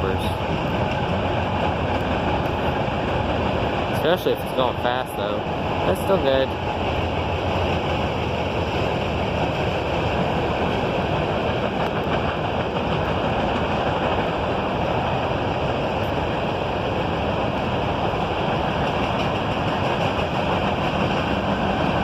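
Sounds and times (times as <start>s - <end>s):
train wheels rolling on rails: 0.0s - 22.0s.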